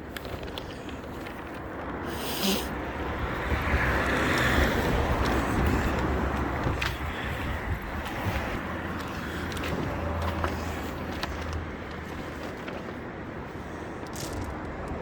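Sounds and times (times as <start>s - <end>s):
car passing: 2.1s - 15.0s
wind rumble on microphone: 2.7s - 15.0s.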